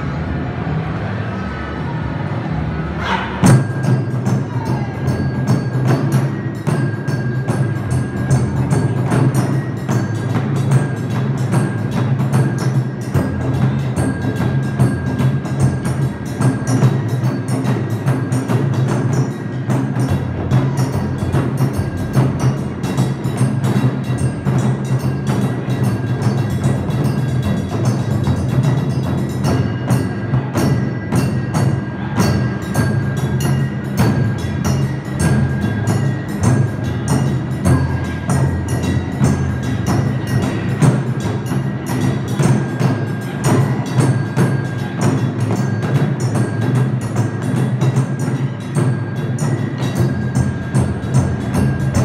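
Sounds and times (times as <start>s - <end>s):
taiko drums playing fast: 3.1s - 52.0s.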